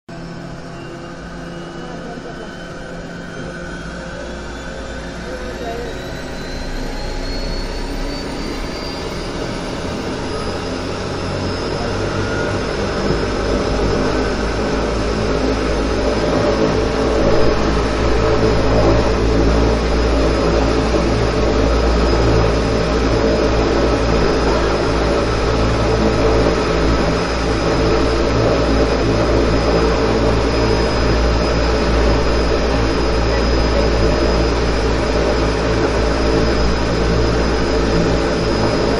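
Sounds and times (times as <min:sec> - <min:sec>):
engine and propeller drone: 0:00.1 - 0:38.9
turbine whine: 0:00.1 - 0:38.9.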